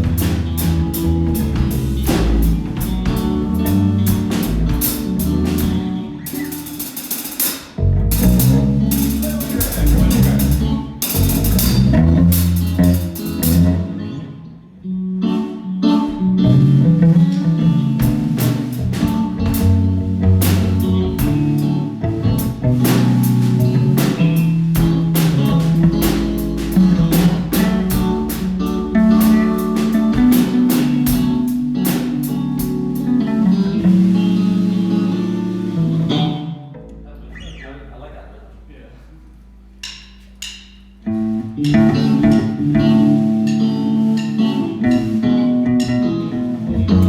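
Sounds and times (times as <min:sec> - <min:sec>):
rock band playing live: 0:00.0 - 0:36.8, 0:39.8 - 0:47.0.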